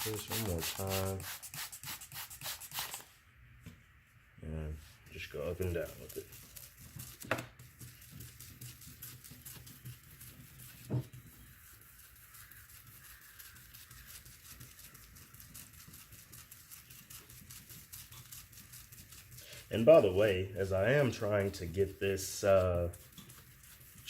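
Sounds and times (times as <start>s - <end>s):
paper towel rubbing on plastic: 0.0s - 3.0s, 5.5s - 24.0s.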